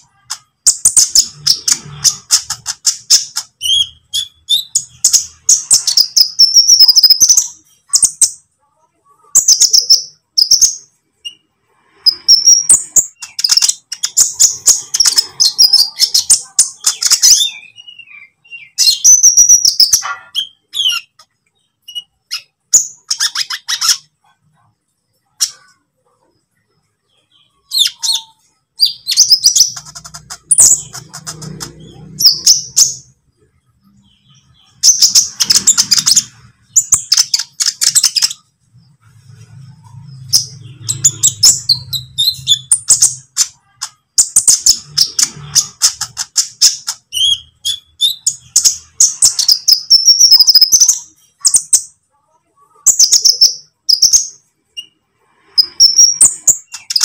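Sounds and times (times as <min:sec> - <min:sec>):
sunbird chirping and twittering: 0:00.0 - 0:57.0.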